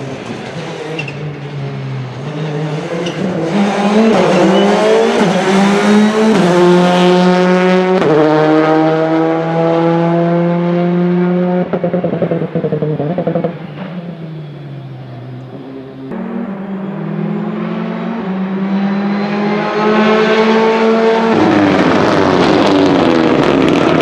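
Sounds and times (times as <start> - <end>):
rally car engine upshifting: 0.0 - 24.0.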